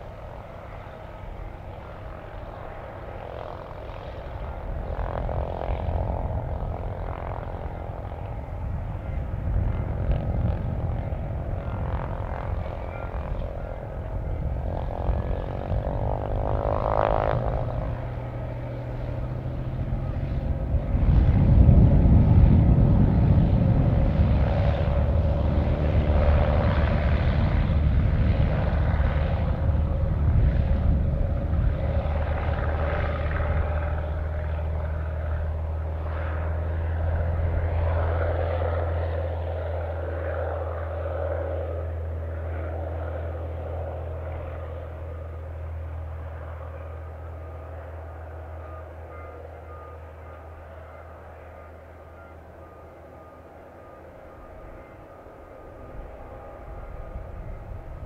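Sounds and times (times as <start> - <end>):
aircraft engine: 0.0 - 58.0
low hum: 0.0 - 58.0.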